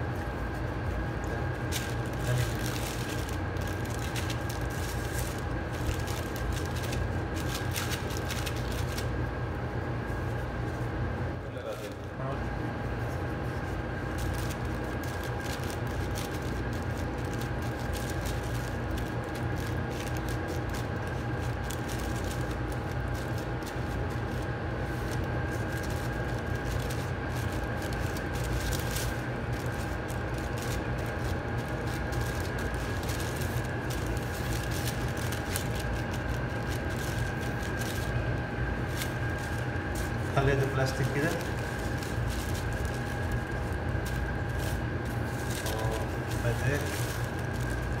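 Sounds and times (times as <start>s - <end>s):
mechanical hum with high whine: 0.0s - 48.0s
plastic bag crinkling: 0.5s - 9.2s, 13.9s - 48.0s.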